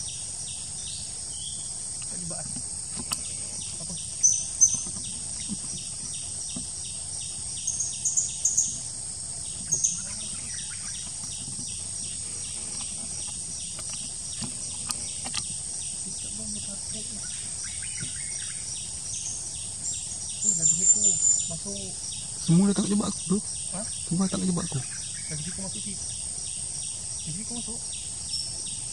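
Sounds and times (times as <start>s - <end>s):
high insect drone: 0.0s - 28.9s
high thin bird chirps: 0.0s - 28.9s
pulsing insect chirr: 0.0s - 28.9s.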